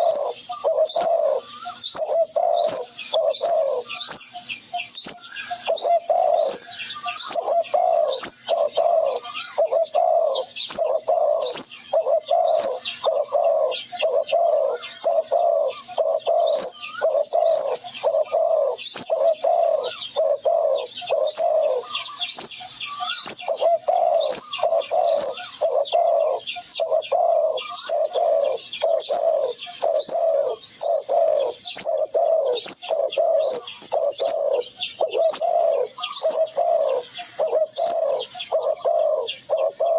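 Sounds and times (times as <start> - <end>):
bird low repeated call: 0.0 - 39.9.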